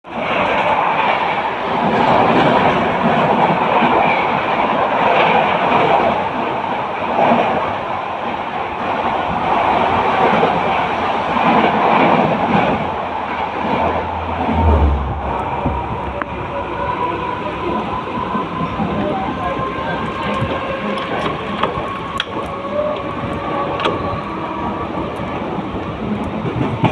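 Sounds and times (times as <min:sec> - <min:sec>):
electric train running on rails: 0:00.0 - 0:26.9.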